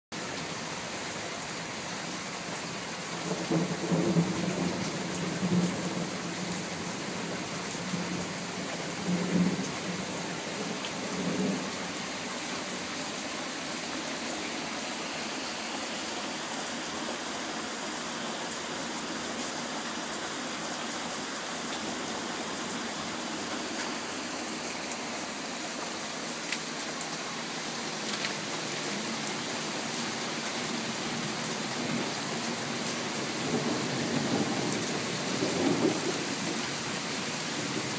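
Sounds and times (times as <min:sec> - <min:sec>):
heavy rain falling: 0:00.2 - 0:37.9.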